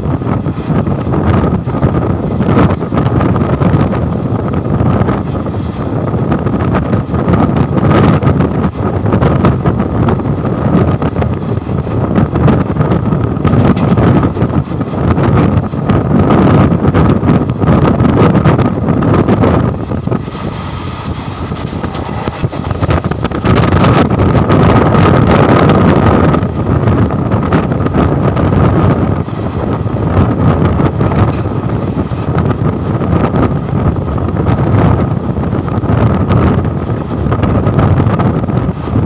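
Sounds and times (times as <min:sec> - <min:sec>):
train wheels clattering on rails: 0:00.0 - 0:39.0
wind buffeting microphone: 0:00.0 - 0:39.0.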